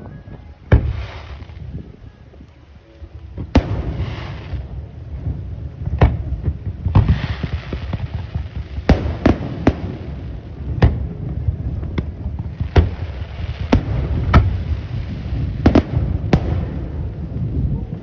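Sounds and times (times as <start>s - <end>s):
fireworks bangs: 0.0s - 2.0s, 3.2s - 18.0s
fireworks crackling: 0.0s - 18.0s
low rumble: 0.0s - 18.0s.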